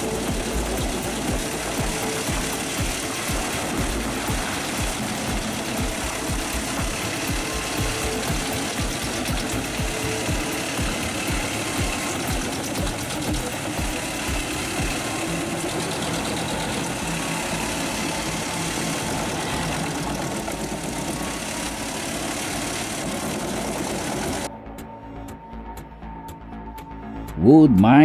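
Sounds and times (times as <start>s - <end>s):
wood chipper running: 0.0s - 24.5s.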